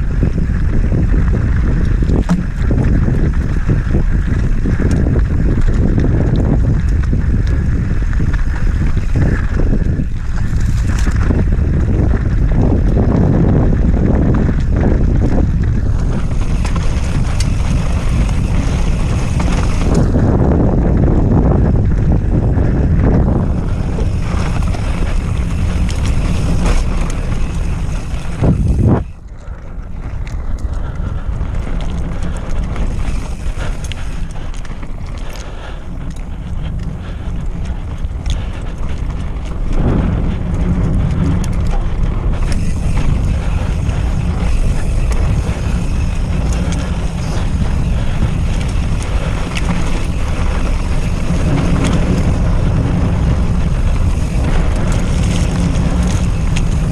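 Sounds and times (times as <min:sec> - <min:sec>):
mountain bike rattling on dirt: 0:00.0 - 0:56.9
wind on microphone: 0:00.0 - 0:56.9.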